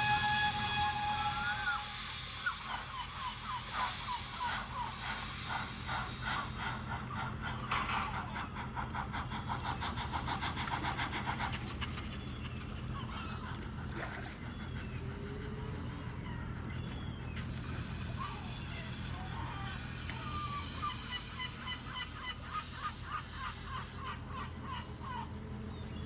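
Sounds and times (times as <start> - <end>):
birds chirping: 0.0 - 26.0
steady low hum: 0.0 - 26.0
steam locomotive chuffing: 0.0 - 26.0.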